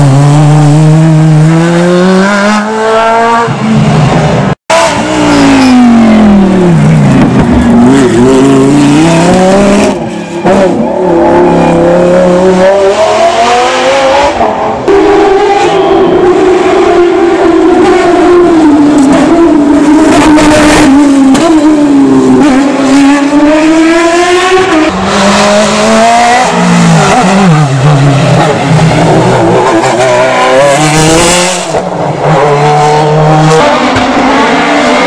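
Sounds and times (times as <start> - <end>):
race car engines at high revs: 0.0 - 35.0.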